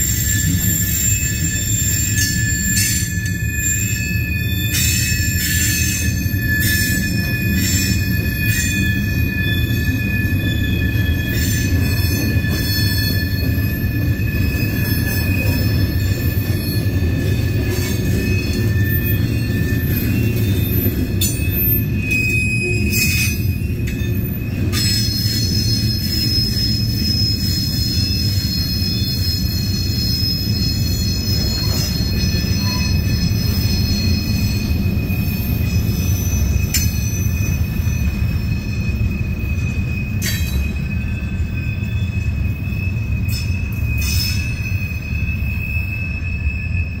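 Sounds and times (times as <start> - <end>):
train wheels rumbling on track: 0.0 - 47.0
wheel squeal: 0.0 - 47.0.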